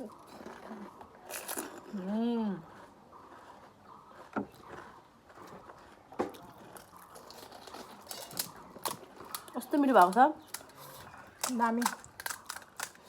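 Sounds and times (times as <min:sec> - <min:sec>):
sharp food crunch: 0:00.0 - 0:02.1, 0:02.7 - 0:13.0
wet squishing while eating: 0:00.1 - 0:13.0.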